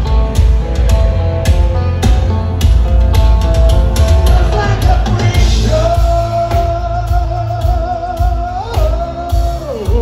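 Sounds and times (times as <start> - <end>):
heavy metal band playing: 0.0 - 10.0.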